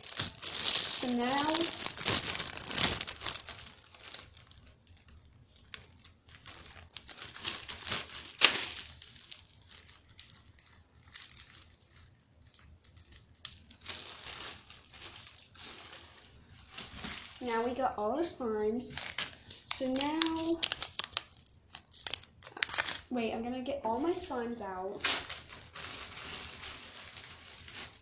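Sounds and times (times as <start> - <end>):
packaging crinkling and rustling: 0.0 - 23.1, 23.9 - 28.0.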